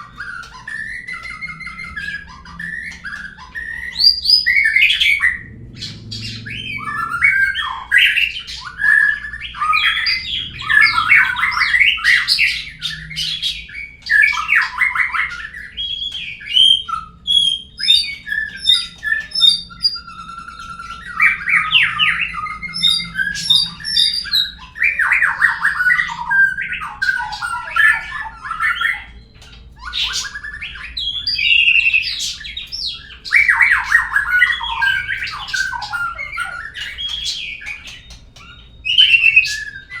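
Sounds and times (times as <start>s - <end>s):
songbird singing: 0.0s - 40.0s.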